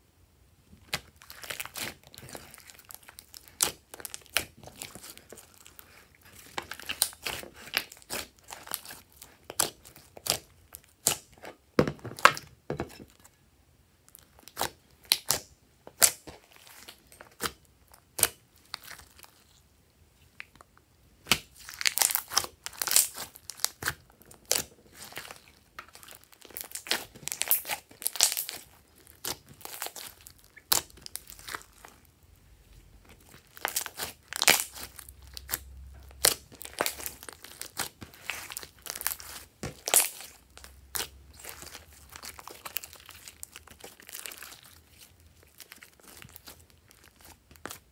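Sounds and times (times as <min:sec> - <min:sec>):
slime crackling and popping: 0:00.8 - 0:11.5, 0:14.1 - 0:19.4, 0:21.2 - 0:32.1, 0:33.0 - 0:47.9.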